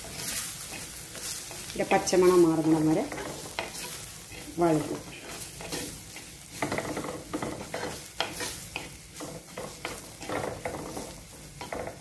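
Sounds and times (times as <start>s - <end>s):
masala sizzling: 0.0s - 12.0s
spatula scraping a pot: 0.0s - 12.0s.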